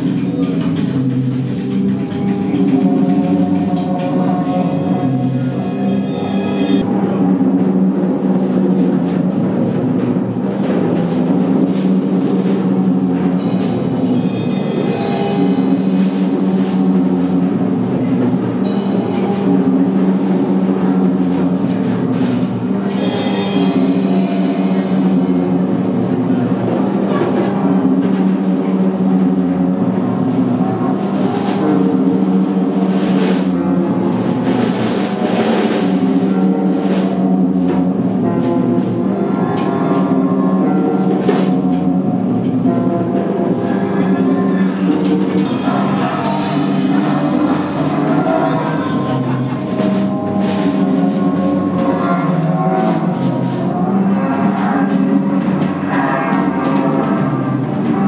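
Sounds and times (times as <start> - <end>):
low electronic drone: 0.0 - 58.0.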